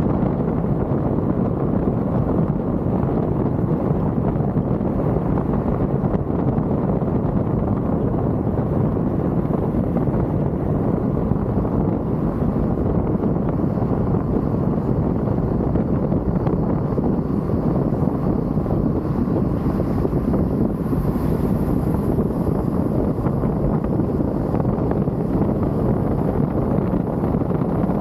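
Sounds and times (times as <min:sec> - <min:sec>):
car wind and road noise: 0:00.0 - 0:28.0
wind buffeting microphone: 0:00.0 - 0:28.0.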